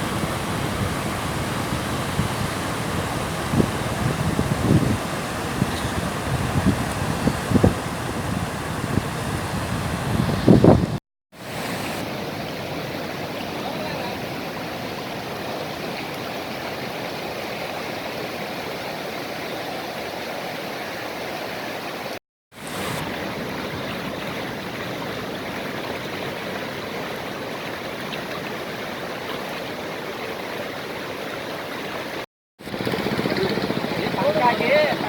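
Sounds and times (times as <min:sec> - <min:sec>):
rushing floodwater roar: 0:00.0 - 0:35.0.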